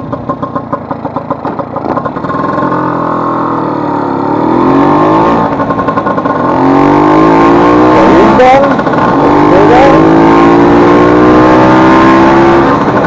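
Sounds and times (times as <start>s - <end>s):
scooter engine accelerating: 0.0s - 13.0s.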